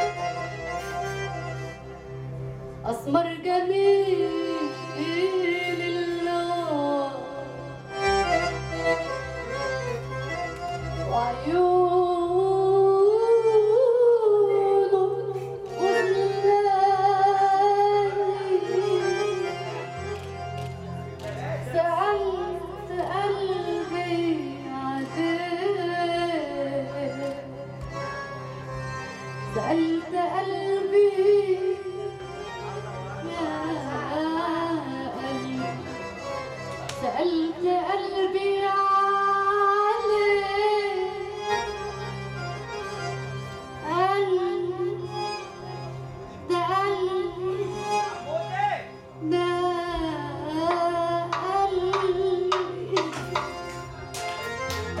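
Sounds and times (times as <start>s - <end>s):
oriental band music: 0.0s - 14.2s, 14.8s - 55.0s
electronic keyboard accompaniment: 0.0s - 55.0s.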